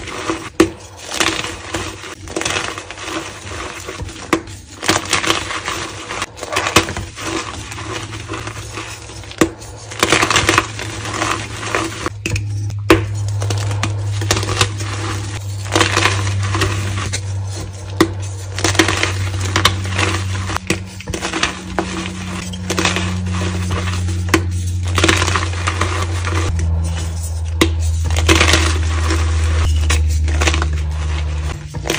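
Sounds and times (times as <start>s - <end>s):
chalk crunching and crackling: 0.0s - 31.9s
steady low hum: 0.0s - 31.9s.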